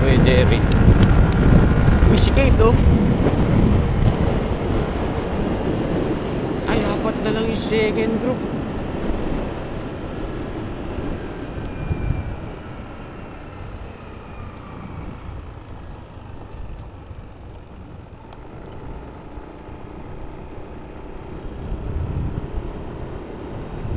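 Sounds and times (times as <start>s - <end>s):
motorcycle engine whine: 0.0s - 23.9s
wind rumble on microphone: 0.0s - 23.9s.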